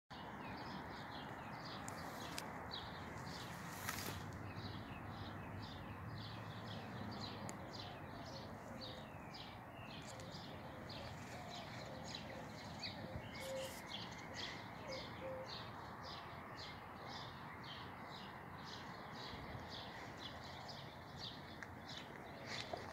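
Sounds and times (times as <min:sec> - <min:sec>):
birds chirping: 0:00.1 - 0:22.9.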